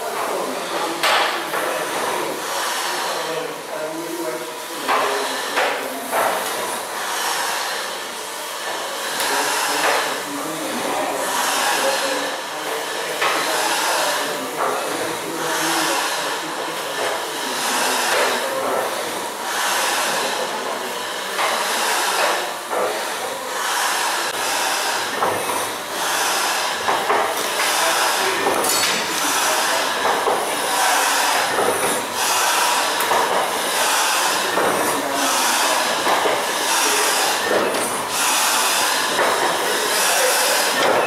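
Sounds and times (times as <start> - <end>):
steam engine hissing in pulses: 0.2 - 41.0.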